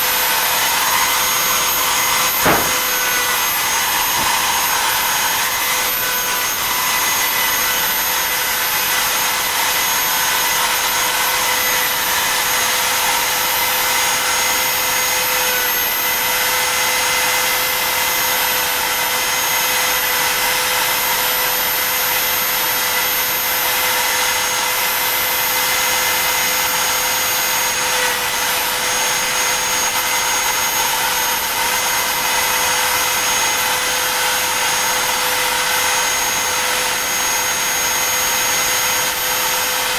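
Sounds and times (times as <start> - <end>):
router spindle whine carving wood: 0.0 - 39.9.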